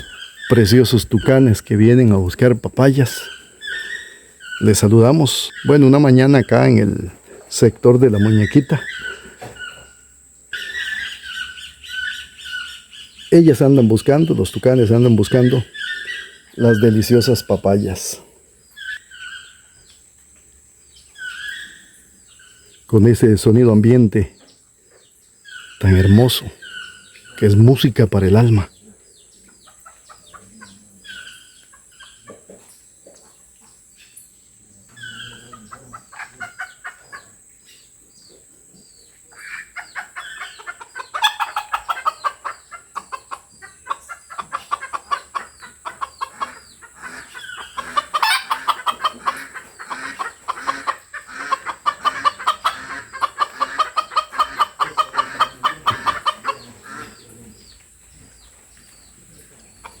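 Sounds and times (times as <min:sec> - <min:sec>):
toucans yelping: 0:00.0 - 0:19.9, 0:21.1 - 0:24.3, 0:25.4 - 0:28.8, 0:29.4 - 0:32.6, 0:34.9 - 0:37.9, 0:39.2 - 0:57.8
toucans croaking calls: 0:00.0 - 1:00.0.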